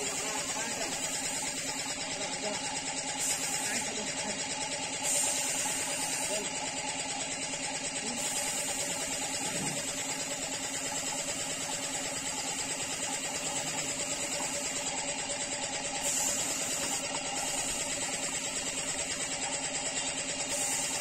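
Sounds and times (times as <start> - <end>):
paint spray gun hissing: 0.0 - 21.0
small pump running with pulse: 0.0 - 21.0.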